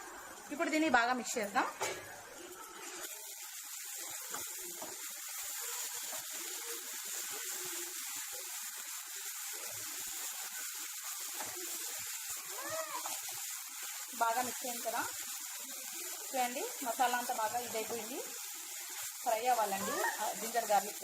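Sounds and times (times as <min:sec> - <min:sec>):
masala sizzling in hot oil: 0:00.0 - 0:21.0.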